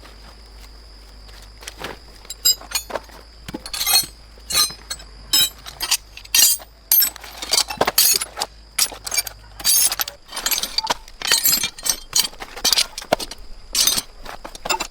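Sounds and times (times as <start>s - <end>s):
metal objects clinking and clattering: 2.2s - 14.9s.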